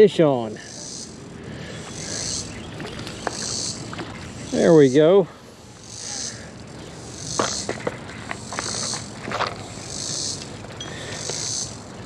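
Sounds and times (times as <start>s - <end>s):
insects buzzing in pulses: 0.0s - 12.0s.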